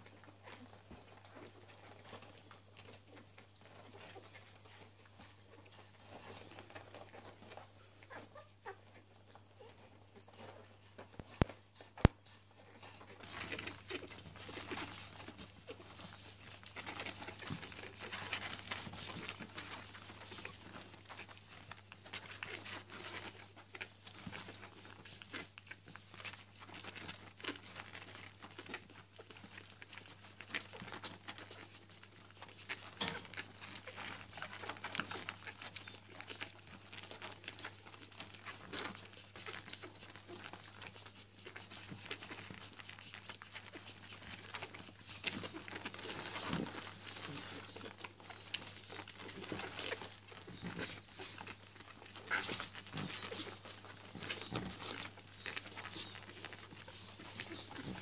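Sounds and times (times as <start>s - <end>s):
puppies suckling and snuffling: 0.0s - 58.0s
puppy squeaks: 0.5s - 58.0s.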